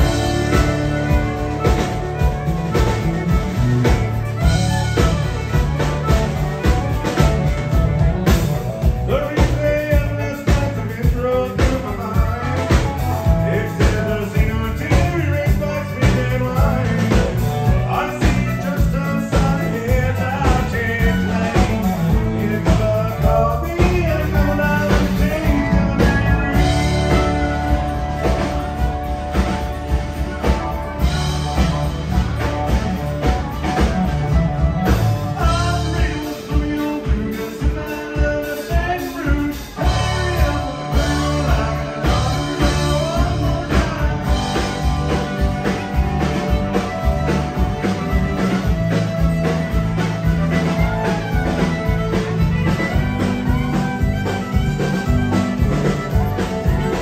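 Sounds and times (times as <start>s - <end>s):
country band playing: 0.0s - 57.0s
drum kit beat: 0.0s - 57.0s.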